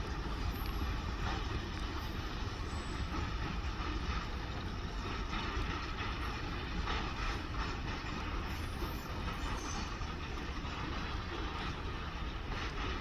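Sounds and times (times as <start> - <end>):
freight train rumbling by: 0.0 - 13.0
rolling rail noise: 0.0 - 13.0.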